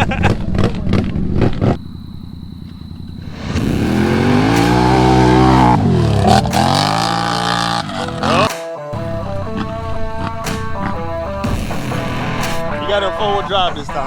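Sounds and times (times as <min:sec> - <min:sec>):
off-road vehicle engine revving: 0:00.2 - 0:14.0.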